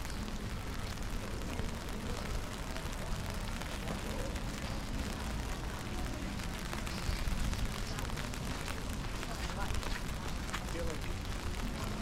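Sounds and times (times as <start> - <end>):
rain hissing on cobblestones: 0.0 - 12.0.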